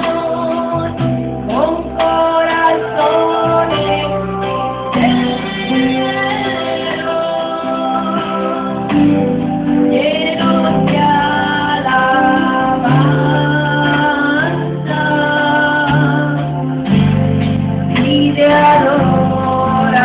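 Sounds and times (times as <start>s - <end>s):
drums: 0.0s - 20.0s
guitar: 0.0s - 20.0s
person singing: 0.0s - 20.0s.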